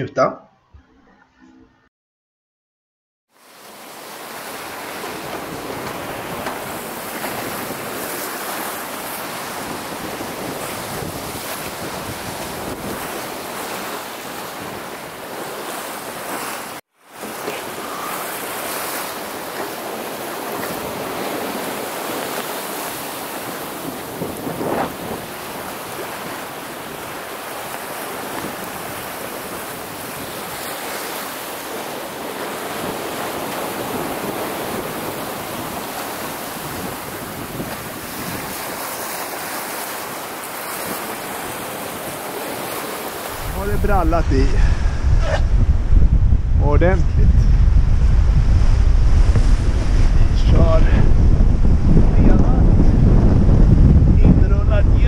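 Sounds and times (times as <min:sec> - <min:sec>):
waves breaking: 0:03.3 - 0:54.8
strong wind: 0:03.9 - 0:55.0
wind buffeting microphone: 0:04.4 - 0:16.4, 0:17.4 - 0:39.4, 0:40.8 - 0:55.0.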